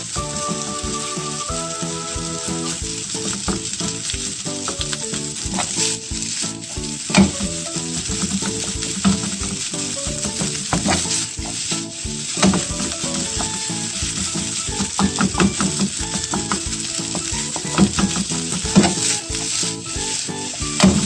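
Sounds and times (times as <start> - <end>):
rice sizzling in a pan: 0.0 - 21.0
spatula scraping: 0.0 - 21.0
spatula clacking against pan: 2.8 - 21.0.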